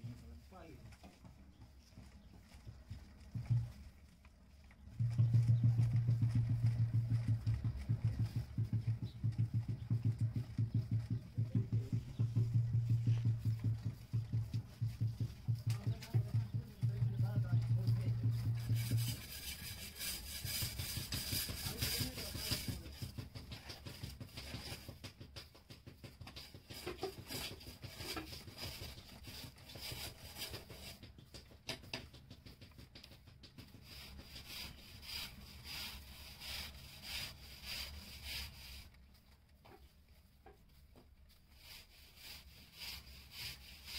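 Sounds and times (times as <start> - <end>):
hands rubbing wet clay: 0.1 - 43.9.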